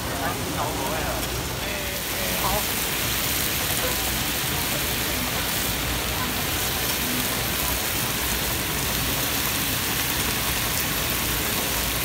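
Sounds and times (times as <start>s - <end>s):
meat sizzling on a grill plate: 0.1s - 12.0s.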